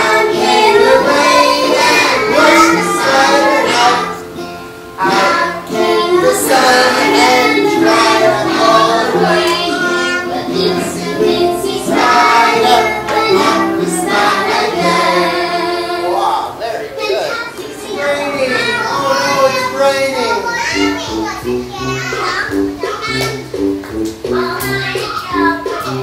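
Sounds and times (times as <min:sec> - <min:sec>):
children singing together: 0:00.0 - 0:23.6, 0:24.3 - 0:26.0.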